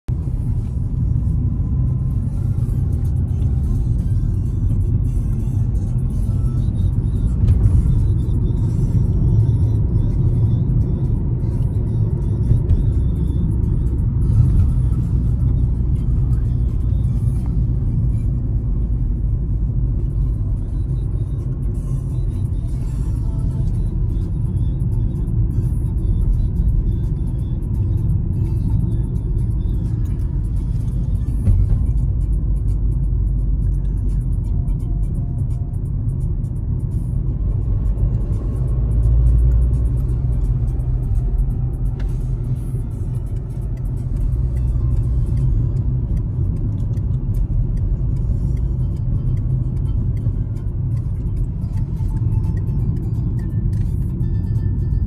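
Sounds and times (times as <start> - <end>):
music: 0.3 - 55.0.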